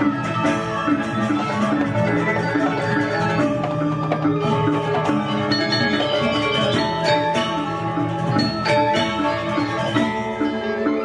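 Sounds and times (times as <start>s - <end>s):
bronze metallophones ringing: 0.0s - 11.0s
hand drums: 0.0s - 11.0s.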